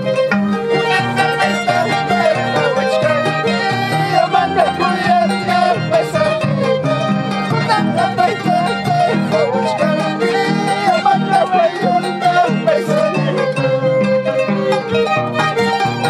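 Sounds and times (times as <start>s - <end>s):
plucked strings with bass line: 0.0s - 16.0s
violin melody: 0.0s - 16.0s.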